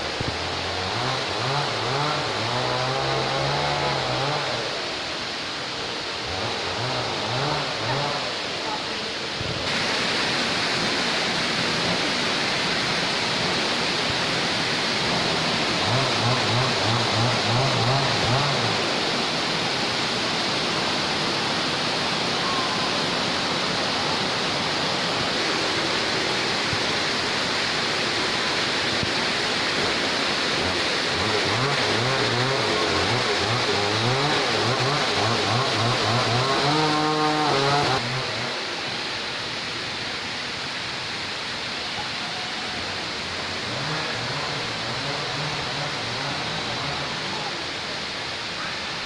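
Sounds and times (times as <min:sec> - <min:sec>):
waterfall: 0:00.0 - 0:49.0.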